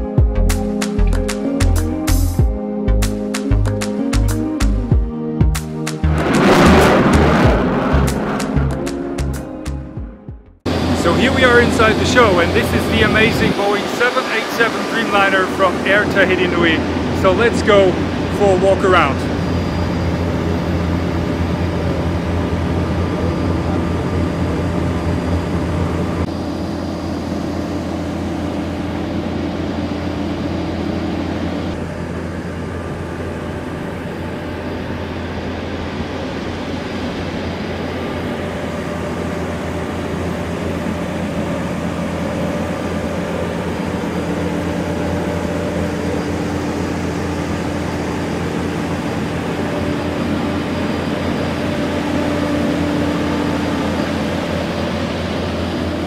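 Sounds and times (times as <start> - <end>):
ground equipment mechanical hum: 10.6 - 56.0.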